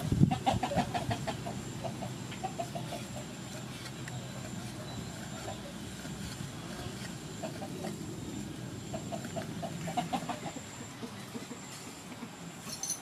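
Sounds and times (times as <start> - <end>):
low steady background noise: 0.0 - 13.0
chicken clucking: 0.2 - 5.8, 6.8 - 8.0, 8.8 - 12.4.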